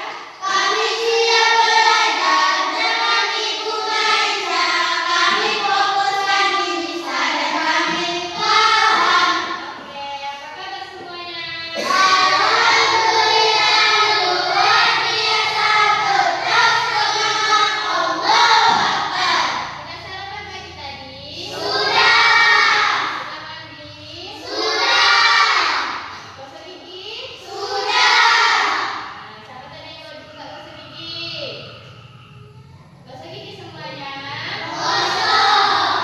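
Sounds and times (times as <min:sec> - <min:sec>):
young children singing: 0:00.0 - 0:36.0.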